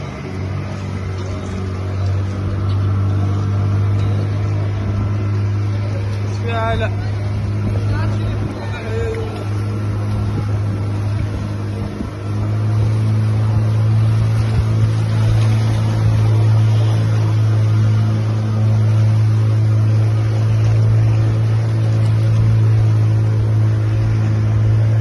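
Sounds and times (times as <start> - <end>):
boat motor droning: 0.0 - 25.0
water rushing along hull: 0.0 - 25.0.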